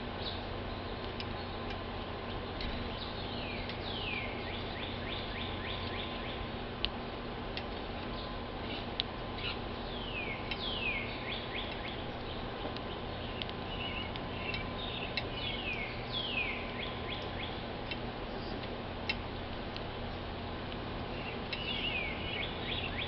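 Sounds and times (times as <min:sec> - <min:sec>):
low background hum: 0:00.0 - 0:23.0
songbirds chirping: 0:00.0 - 0:23.0.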